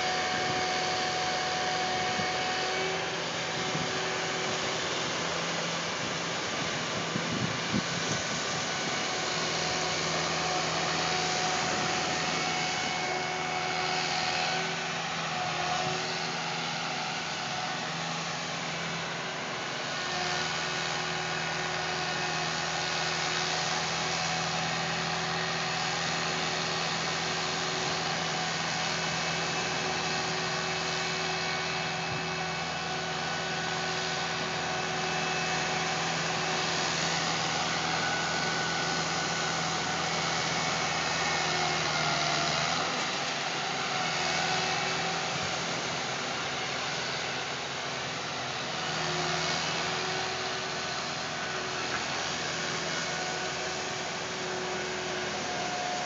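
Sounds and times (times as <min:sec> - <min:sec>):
vehicle engine running: 0:00.0 - 0:56.0
wind: 0:00.0 - 0:56.0.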